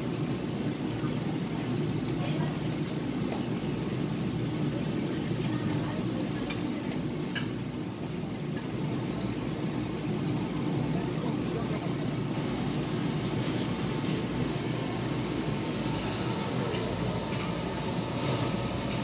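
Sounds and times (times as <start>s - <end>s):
busy market hum: 0.0s - 19.0s.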